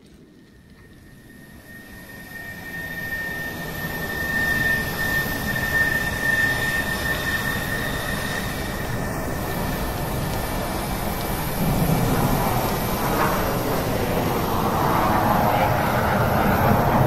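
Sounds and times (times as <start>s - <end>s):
thin high whine: 0.5s - 17.0s
engine-like rush: 2.0s - 17.0s.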